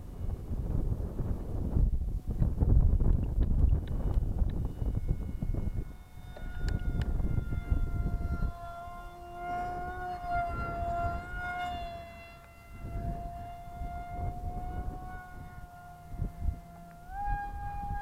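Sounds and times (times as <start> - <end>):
model jet motor whine: 0.0 - 18.0
wind buffeting microphone: 0.0 - 18.0.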